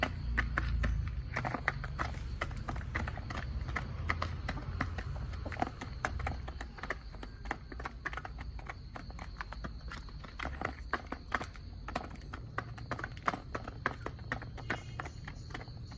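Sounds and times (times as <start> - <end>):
chickens pecking taps: 0.0 - 15.9.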